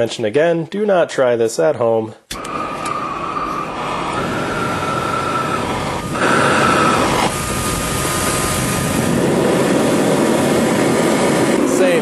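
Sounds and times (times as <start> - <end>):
burner rushing hiss: 2.3 - 12.0
hairdryer whining: 2.3 - 12.0.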